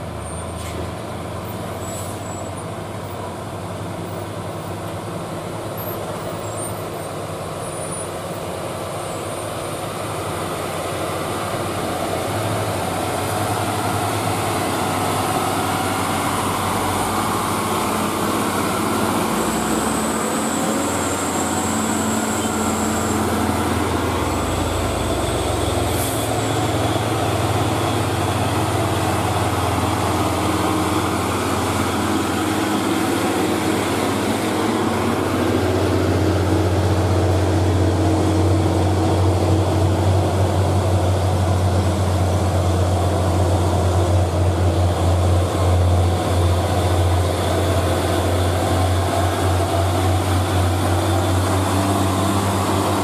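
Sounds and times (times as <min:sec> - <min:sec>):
diesel truck engines labouring: 0:00.0 - 0:53.0.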